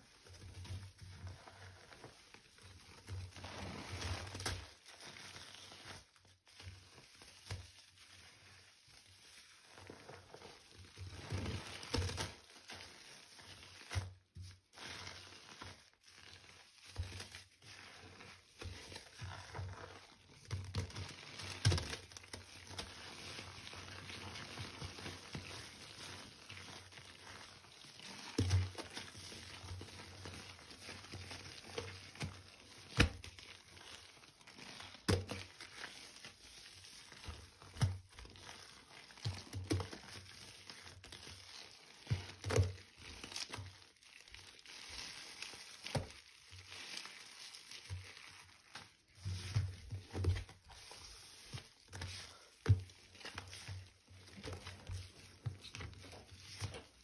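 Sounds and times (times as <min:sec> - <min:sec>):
hands squishing damp paste: 0:00.0 - 0:57.0.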